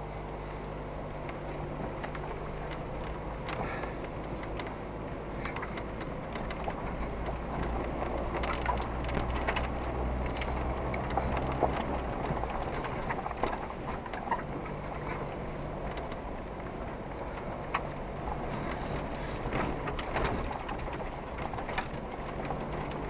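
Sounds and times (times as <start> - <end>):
car engine idling and pulling away: 0.0 - 23.0
stones knocking and rattling: 1.3 - 23.0.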